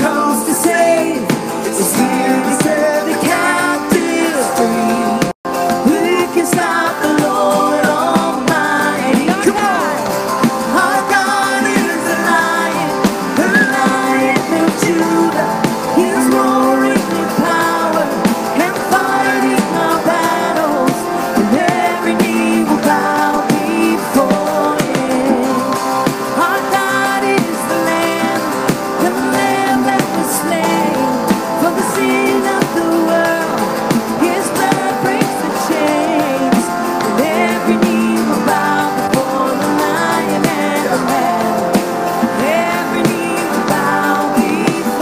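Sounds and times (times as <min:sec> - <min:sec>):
acoustic guitar: 0:00.0 - 0:45.0
people singing: 0:00.0 - 0:45.0.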